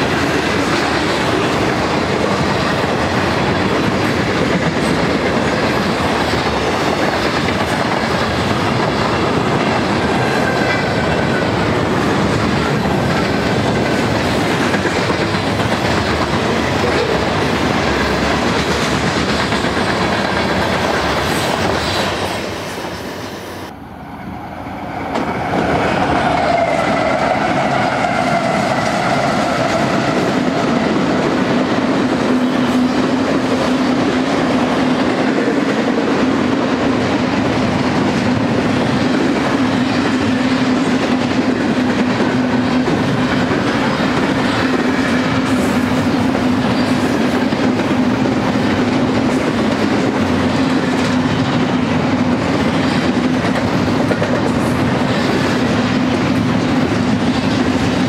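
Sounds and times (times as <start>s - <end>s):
freight cars rolling on rails: 0.0s - 23.6s, 24.5s - 58.0s
diesel locomotive engines: 0.0s - 58.0s.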